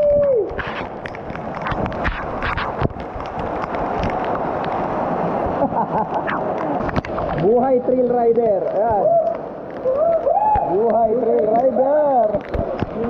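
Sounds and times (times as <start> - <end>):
water drops ticking on camera: 0.1 - 13.0.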